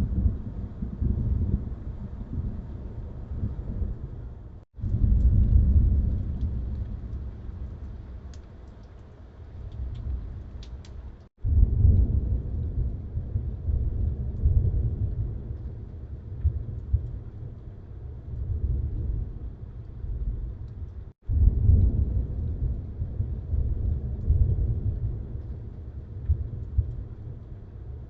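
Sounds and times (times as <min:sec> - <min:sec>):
rain: 0:00.0 - 0:28.0
thunder rumbling: 0:00.0 - 0:28.0.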